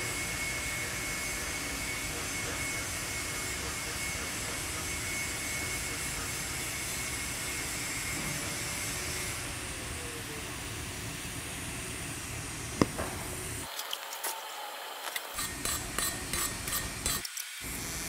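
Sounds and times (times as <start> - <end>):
faint high whine: 0.0 - 16.1
welding arc hissing: 0.0 - 18.0.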